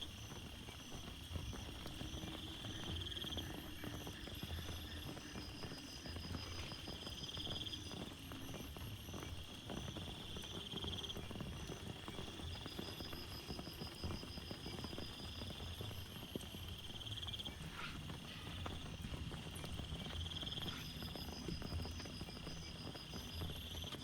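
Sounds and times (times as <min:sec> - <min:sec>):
insects trilling: 0:00.0 - 0:24.0
rain pattering and dripping: 0:00.0 - 0:24.0.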